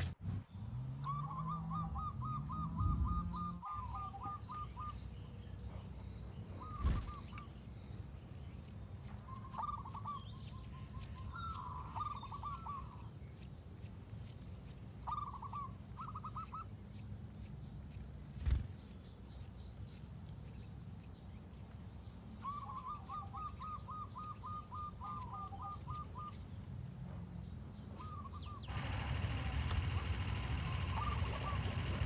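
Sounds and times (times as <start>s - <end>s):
birds chirping trills: 0.0s - 32.0s.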